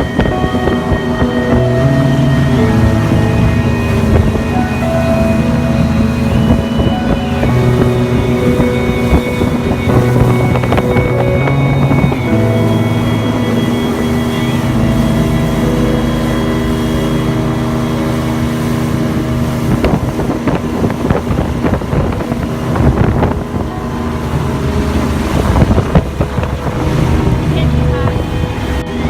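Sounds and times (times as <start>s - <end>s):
motorboat engine running: 0.0s - 29.0s
wind on microphone: 0.0s - 29.0s.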